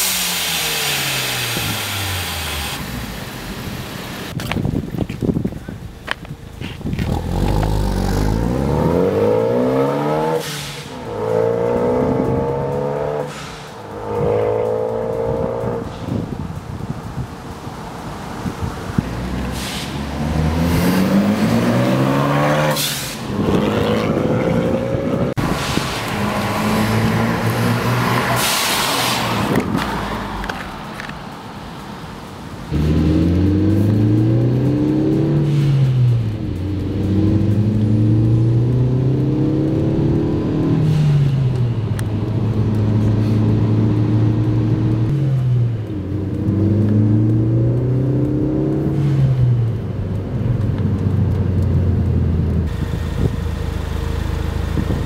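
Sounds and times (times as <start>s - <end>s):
car engine accelerating hard: 0.0s - 4.4s, 6.9s - 31.1s, 32.6s - 55.0s.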